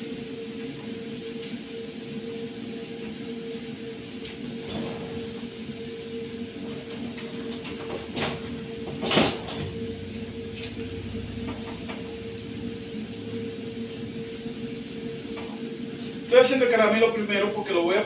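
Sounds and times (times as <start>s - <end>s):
gas stove hiss: 0.0s - 18.0s.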